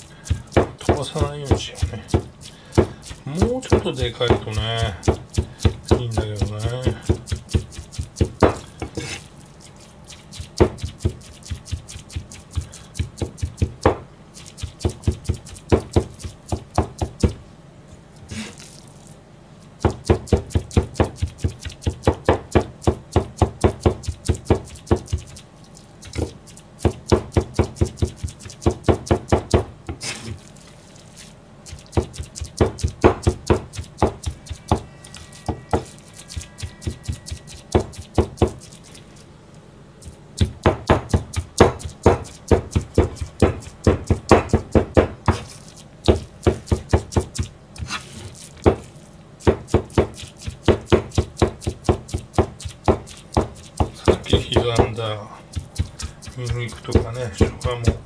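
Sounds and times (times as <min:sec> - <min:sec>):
cleaver chopping on plastic board: 0:00.3 - 0:09.2, 0:10.6 - 0:14.0, 0:14.6 - 0:17.4, 0:19.8 - 0:25.4, 0:26.0 - 0:30.2, 0:31.7 - 0:38.6, 0:40.0 - 0:48.0, 0:48.6 - 0:58.0.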